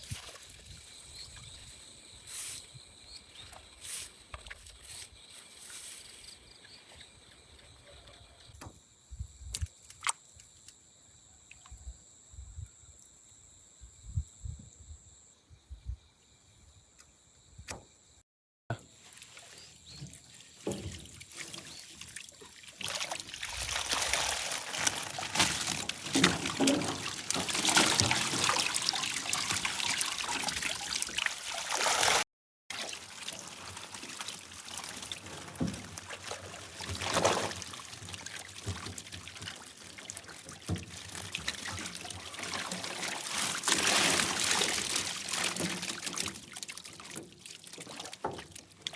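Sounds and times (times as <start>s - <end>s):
water splashing and trickling: 0.0s - 8.7s, 9.5s - 10.6s, 18.7s - 48.9s.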